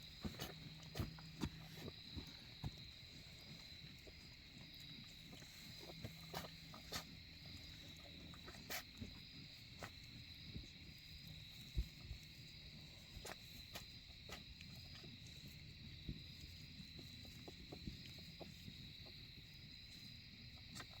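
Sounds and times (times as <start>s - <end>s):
night crickets trilling: 0.0s - 21.0s
rustles: 0.0s - 21.0s.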